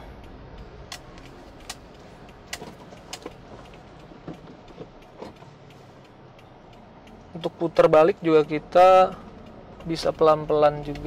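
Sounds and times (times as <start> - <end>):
car engine and road noise: 0.0 - 11.0
sharp clicks: 0.2 - 11.0.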